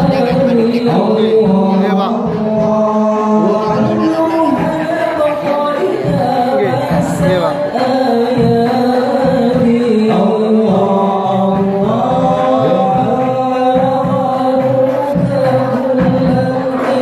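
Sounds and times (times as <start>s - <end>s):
frame drums beating: 0.0s - 17.0s
men singing together: 0.0s - 17.0s.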